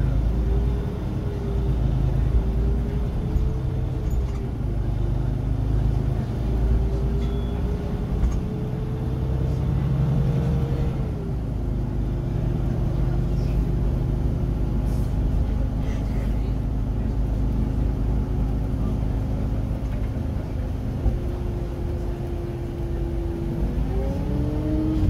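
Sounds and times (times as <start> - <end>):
bus engine rumbling: 0.0 - 25.0.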